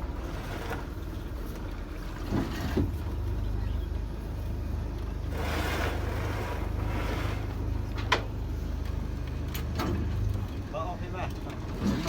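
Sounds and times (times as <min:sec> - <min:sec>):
boat engine droning: 0:00.0 - 0:12.0
water and wind noise: 0:00.0 - 0:12.0.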